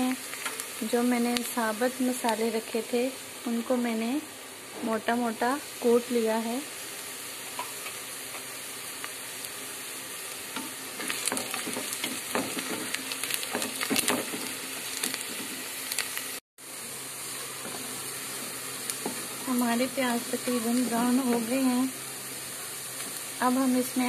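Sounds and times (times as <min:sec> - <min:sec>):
onions sizzling in hot fat: 0:00.0 - 0:24.0.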